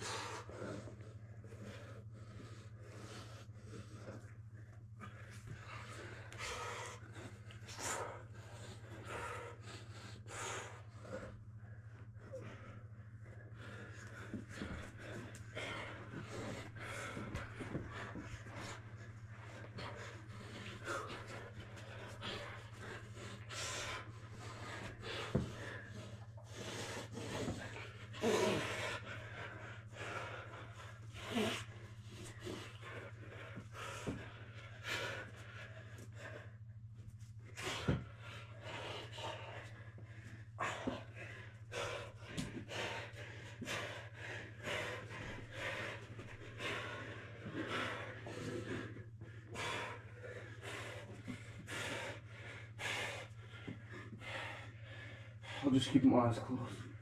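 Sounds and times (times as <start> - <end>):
people panting: 0.0 - 57.0
steady low hum: 0.0 - 57.0.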